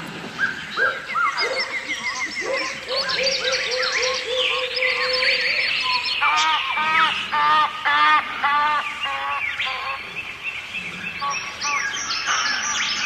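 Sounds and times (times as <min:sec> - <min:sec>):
birds singing: 0:00.3 - 0:13.0.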